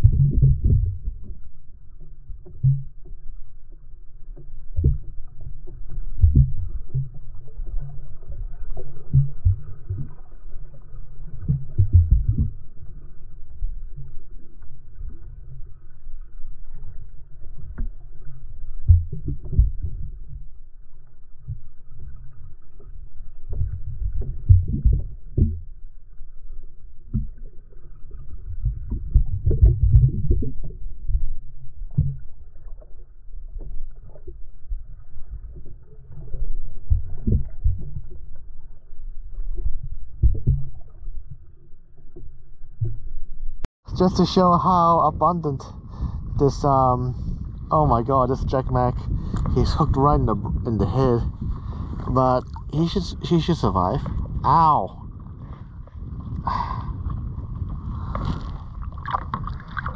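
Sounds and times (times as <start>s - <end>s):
underwater rumble of water: 0.0s - 59.9s.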